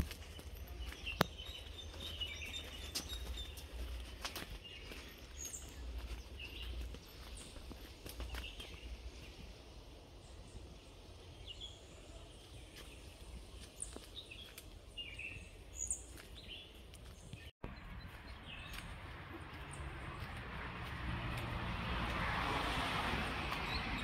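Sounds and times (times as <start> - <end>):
bird chirps: 0.0 - 19.9.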